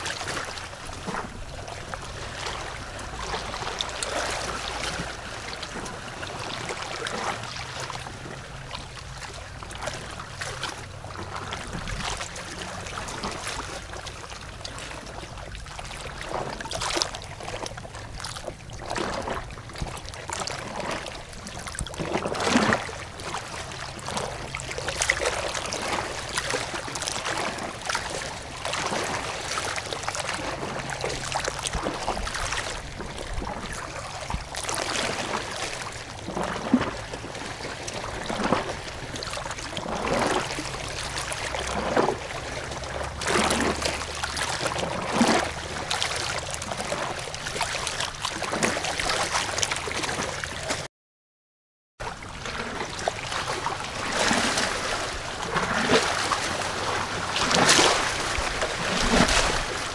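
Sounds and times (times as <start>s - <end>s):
running water: 0.0s - 50.9s, 52.1s - 59.9s
water splashing and gurgling: 0.0s - 50.9s, 52.0s - 59.9s.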